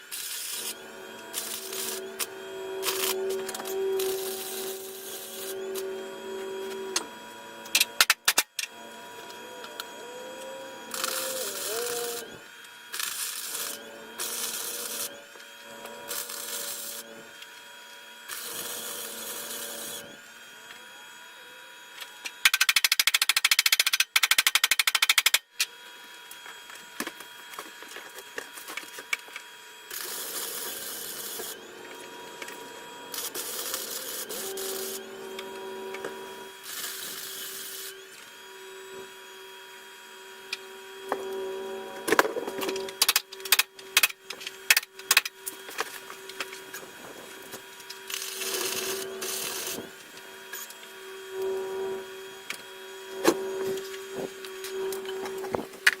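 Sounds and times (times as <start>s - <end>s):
power tool running in bursts: 0.0s - 24.1s, 26.0s - 56.0s.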